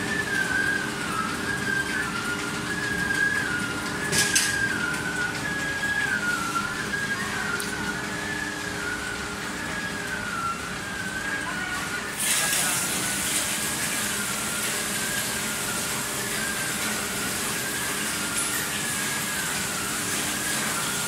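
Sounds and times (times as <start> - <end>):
machinery low hum: 0.0 - 21.0
wavering high machine whine: 0.0 - 21.0.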